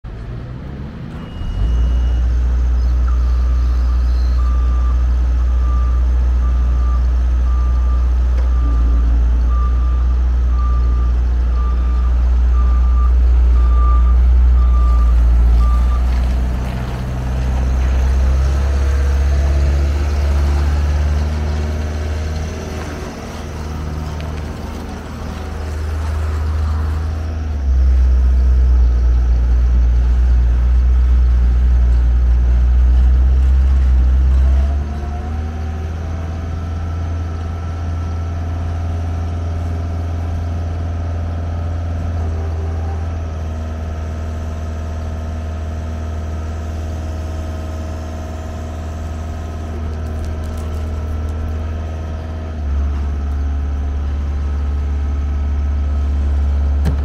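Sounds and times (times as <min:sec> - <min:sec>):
diesel loader engine running: 0:00.0 - 0:57.0.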